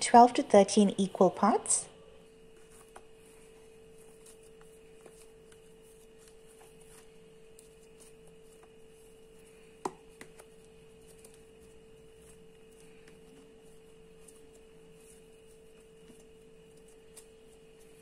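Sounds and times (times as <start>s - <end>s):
faint steady hum: 0.0s - 18.0s
hands pulling bread dough: 2.5s - 18.0s.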